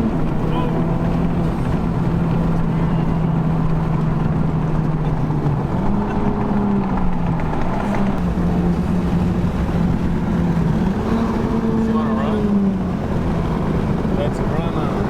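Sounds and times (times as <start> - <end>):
car engine cruising: 0.0 - 15.0
road noise: 0.0 - 15.0.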